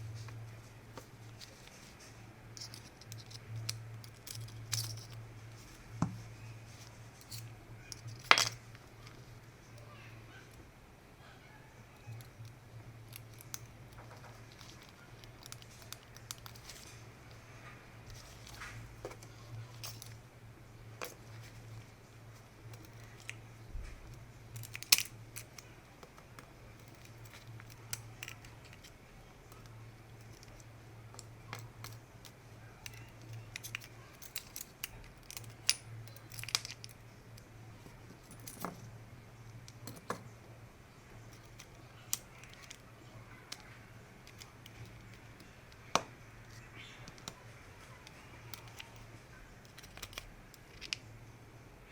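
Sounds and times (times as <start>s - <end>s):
steady low hum: 0.0s - 51.9s
small hard parts clicking and clinking: 0.9s - 10.7s, 11.8s - 20.2s, 21.0s - 40.4s, 41.0s - 51.3s.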